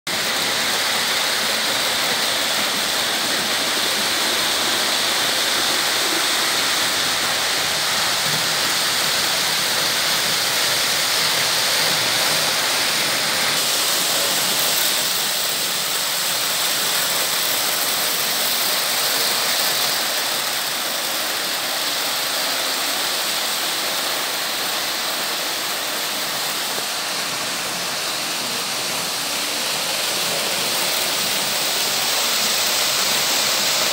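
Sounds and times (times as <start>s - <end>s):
model train wheels rattling on rails: 0.1s - 33.9s.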